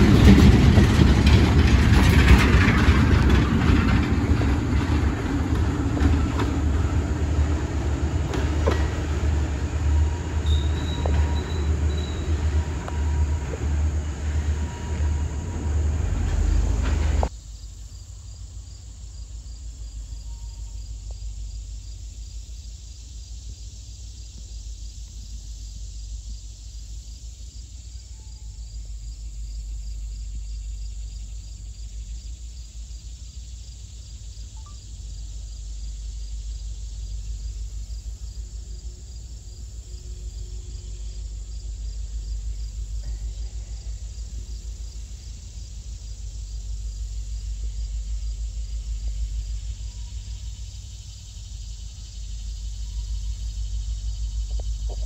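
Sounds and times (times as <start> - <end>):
railroad cars wheels clattering: 0.0 - 17.4, 18.8 - 55.0
crickets chirping: 0.0 - 55.0.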